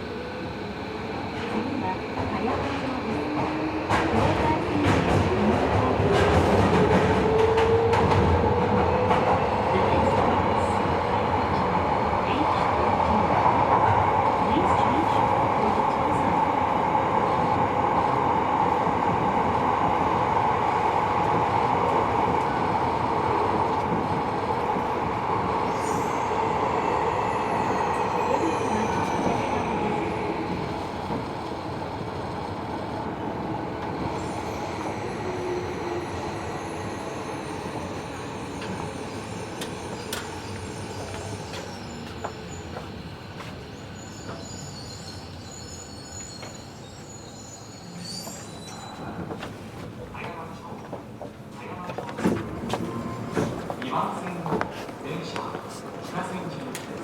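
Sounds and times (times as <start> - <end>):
subway train running rumble: 0.0 - 57.0.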